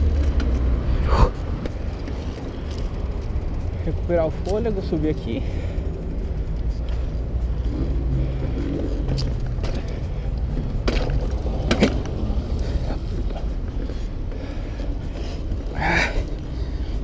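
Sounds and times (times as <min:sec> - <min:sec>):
bicycle tyres and frame rattling: 0:00.0 - 0:17.0.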